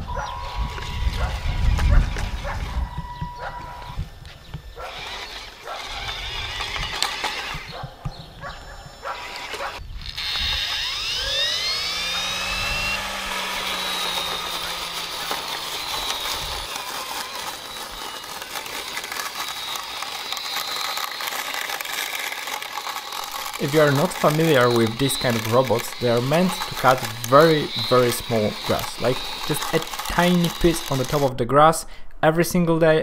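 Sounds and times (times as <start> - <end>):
blade motor whine: 0.0 - 31.3.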